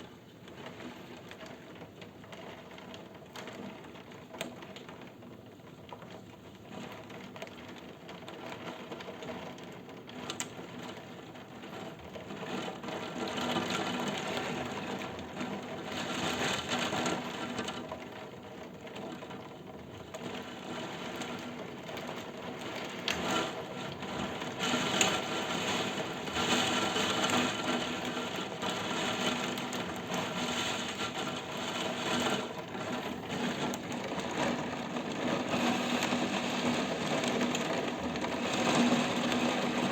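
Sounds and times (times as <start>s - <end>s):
heavy rain drumming on a surface: 0.0s - 39.9s.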